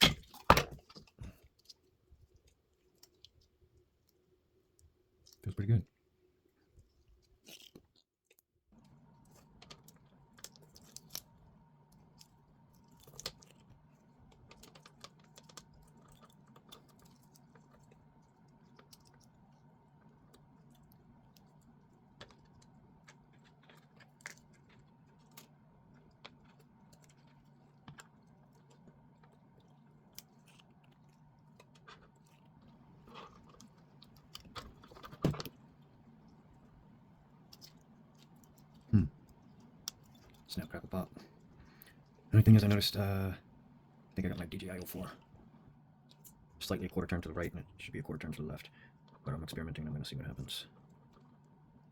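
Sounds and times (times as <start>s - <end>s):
faint steady hum: 0.0s - 7.9s, 8.7s - 51.9s.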